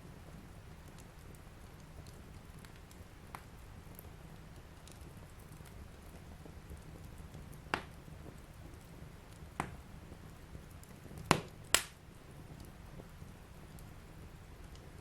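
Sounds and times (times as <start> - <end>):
fire crackling pops: 0.0 - 15.0
wood fire rumbling: 0.0 - 15.0.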